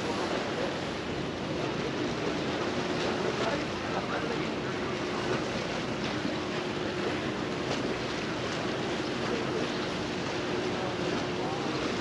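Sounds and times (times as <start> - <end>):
sea waves washing around pier: 0.0 - 12.0
wind: 0.0 - 12.0.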